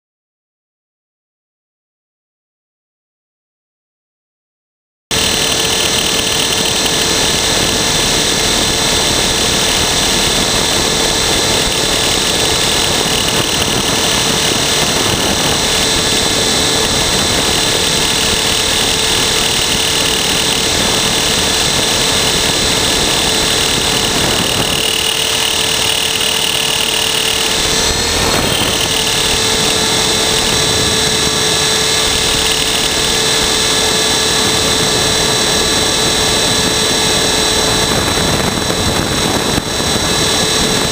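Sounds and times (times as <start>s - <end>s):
electric motor high whine: 5.1s - 40.9s
helicopter rotor: 5.1s - 40.9s
wind noise: 5.1s - 40.9s.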